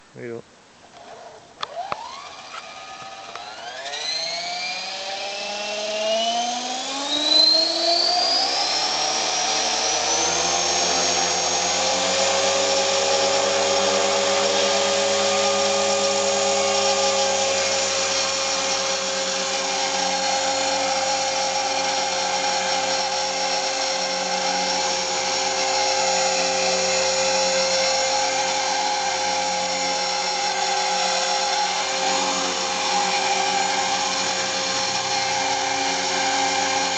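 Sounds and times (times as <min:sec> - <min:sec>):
electric helicopter motor whine: 0:01.0 - 0:36.9
rotor buzz: 0:01.0 - 0:36.9.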